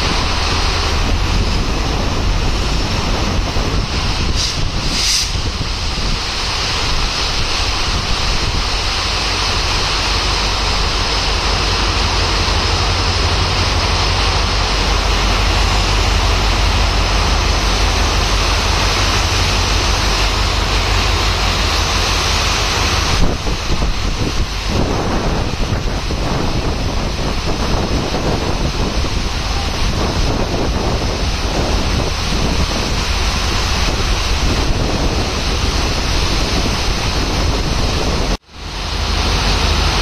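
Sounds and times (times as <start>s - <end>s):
wind buffeting microphone: 0.0s - 38.4s
diesel locomotive engine rumble: 0.0s - 40.0s
heavy rain: 0.0s - 40.0s.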